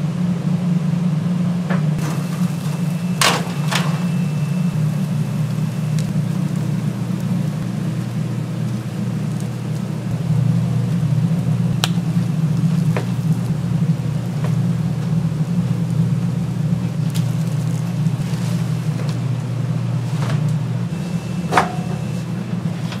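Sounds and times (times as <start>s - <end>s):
kitchen equipment humming: 0.0s - 23.0s.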